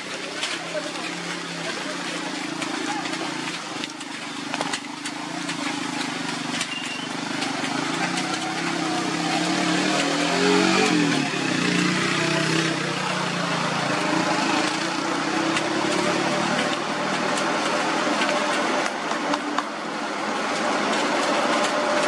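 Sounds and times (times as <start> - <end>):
diesel truck engine under load: 0.0 - 22.0.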